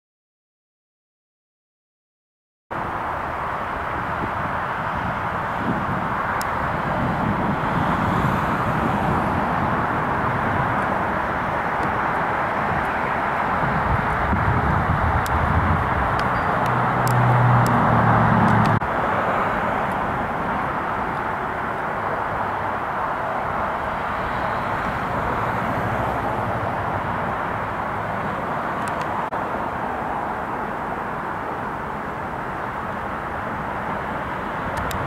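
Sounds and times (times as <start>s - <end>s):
low engine-like hum: 2.7s - 35.0s
steady outdoor rushing noise: 2.7s - 35.0s.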